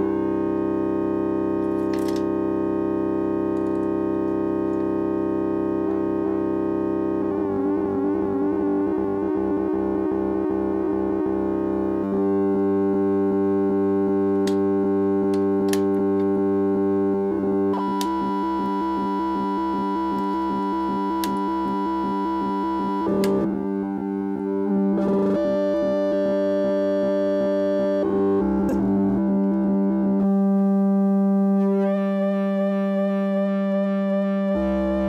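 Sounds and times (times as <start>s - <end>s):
synthesizer droning buzzy tone: 0.0s - 35.0s.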